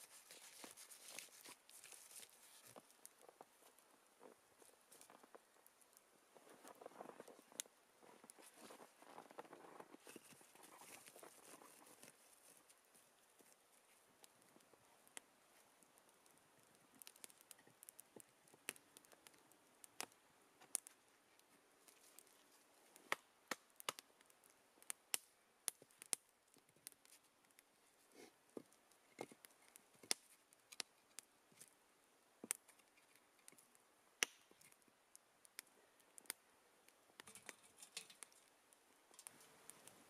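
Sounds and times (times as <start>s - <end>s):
campfire crackling: 0.0s - 40.0s
sharp snaps and pops: 0.4s - 27.8s, 28.5s - 31.8s, 32.4s - 40.0s.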